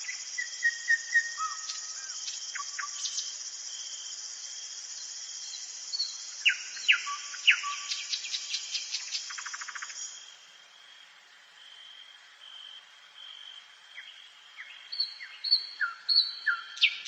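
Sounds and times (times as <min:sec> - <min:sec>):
nightingale singing: 0:00.0 - 0:10.4, 0:13.3 - 0:17.0
insects chirring: 0:00.0 - 0:17.0.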